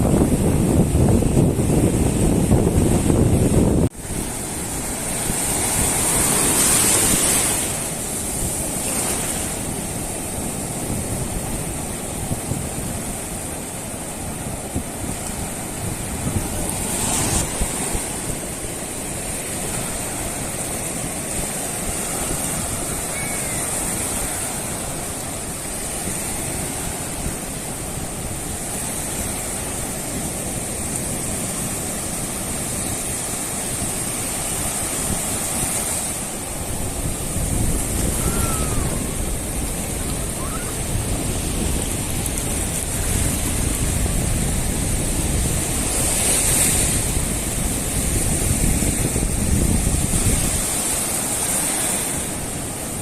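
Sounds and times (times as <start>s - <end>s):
waves washing onto shore: 0.0s - 53.0s.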